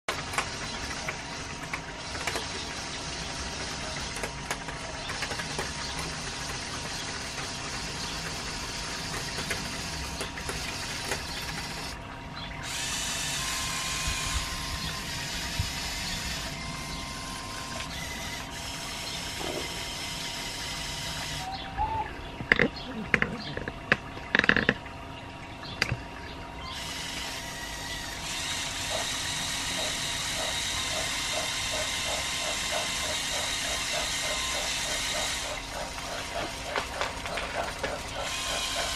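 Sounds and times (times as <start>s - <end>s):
high-pitched motor whine: 0.1s - 23.7s, 25.7s - 38.9s
electric motors whirring: 0.1s - 24.8s, 26.6s - 38.9s.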